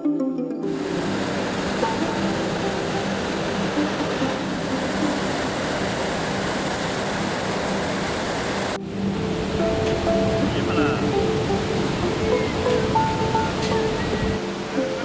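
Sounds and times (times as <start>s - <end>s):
rushing river and waterfall: 0.6s - 15.0s.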